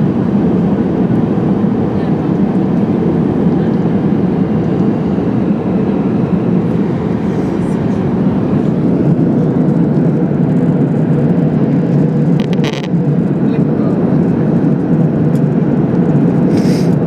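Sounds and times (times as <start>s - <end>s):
airplane engines and airflow rumble: 0.0s - 17.0s.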